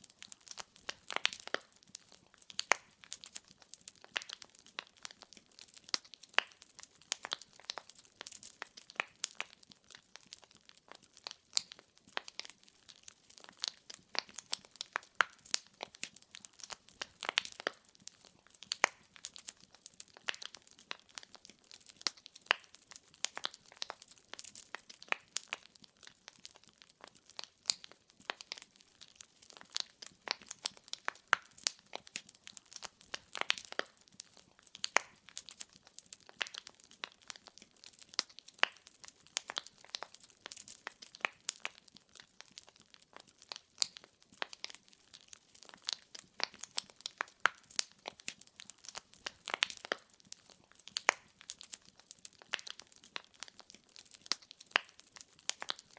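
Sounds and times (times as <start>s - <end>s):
logs popping and snapping: 0.0s - 55.9s
wood fire crackling: 0.0s - 55.9s.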